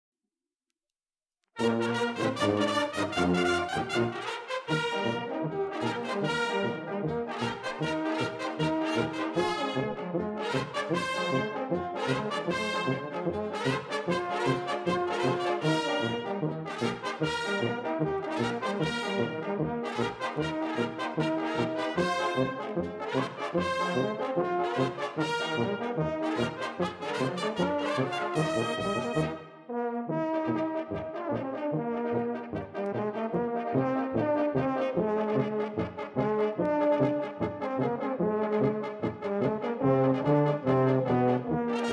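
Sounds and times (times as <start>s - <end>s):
brass band playing a march: 1.6s - 41.9s.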